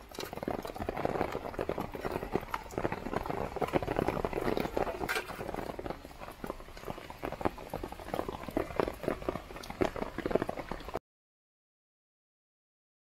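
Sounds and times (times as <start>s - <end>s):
heavy rain on a tarp: 0.0s - 11.0s.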